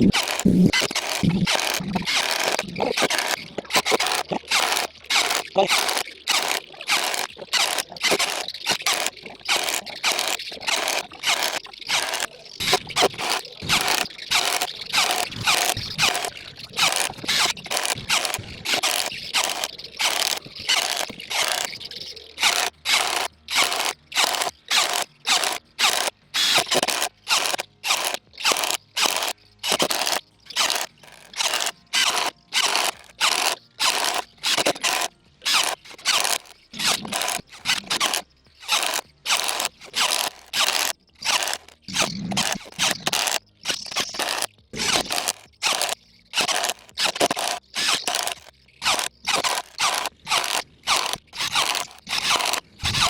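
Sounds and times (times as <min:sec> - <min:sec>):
impact driver rattling bursts: 0:00.0 - 0:21.8, 0:22.4 - 0:53.0.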